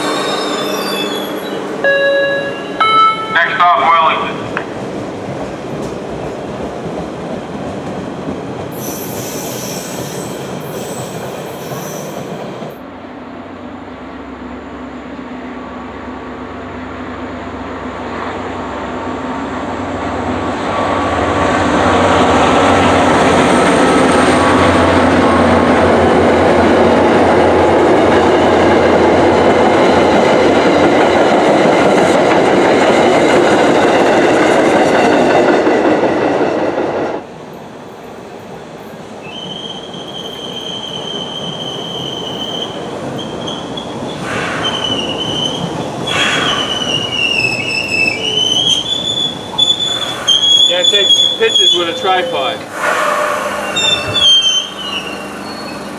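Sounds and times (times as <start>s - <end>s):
diesel train passing on rails: 0.0s - 55.9s
subway train pulling in: 0.0s - 55.9s.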